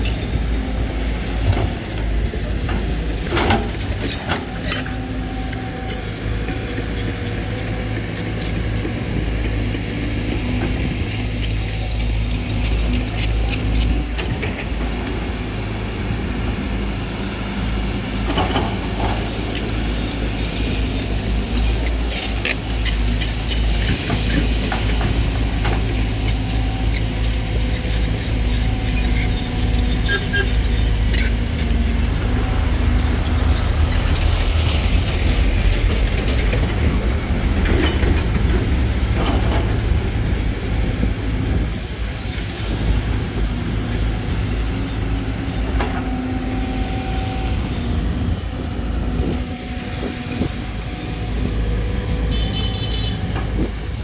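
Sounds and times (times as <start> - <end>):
excavator diesel engine running: 0.0 - 54.0
hydraulics whine: 0.0 - 54.0.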